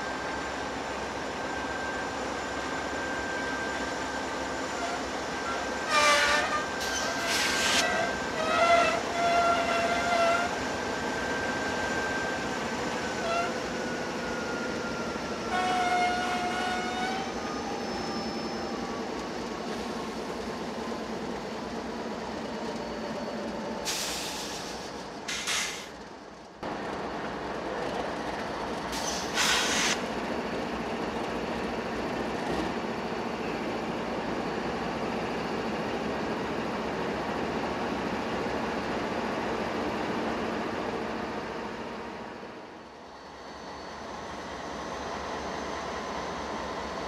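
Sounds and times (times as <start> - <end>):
train rolling: 0.0 - 47.0.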